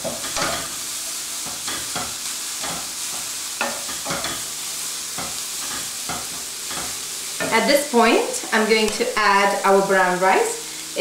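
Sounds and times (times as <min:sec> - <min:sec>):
cabbage sizzling in a frying pan: 0:00.0 - 0:11.0.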